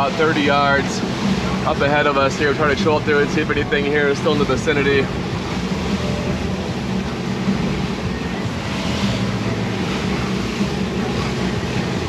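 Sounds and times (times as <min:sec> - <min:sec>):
outboard motors humming: 0:00.0 - 0:12.0
water rushing along hull: 0:00.0 - 0:12.0.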